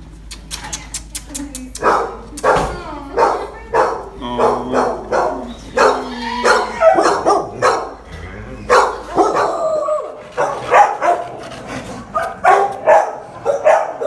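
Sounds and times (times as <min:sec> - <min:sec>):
dogs barking: 0:01.8 - 0:14.0.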